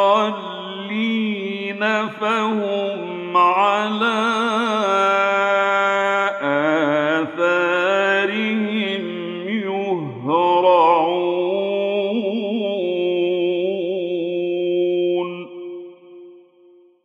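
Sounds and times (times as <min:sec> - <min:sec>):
man reciting melodically: 0:00.0 - 0:15.8.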